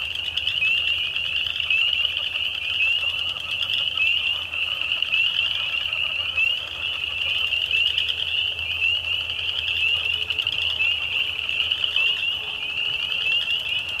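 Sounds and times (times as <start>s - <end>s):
spring peepers chorus: 0.0s - 14.0s.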